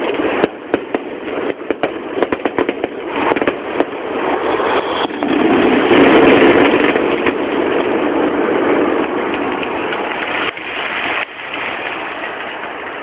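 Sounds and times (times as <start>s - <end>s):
fireworks bursts and crackles: 0.0s - 13.0s.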